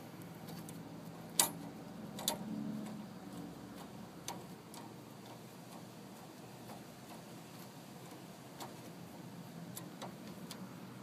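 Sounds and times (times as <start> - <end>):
metal brake parts clicking: 0.5 - 10.7.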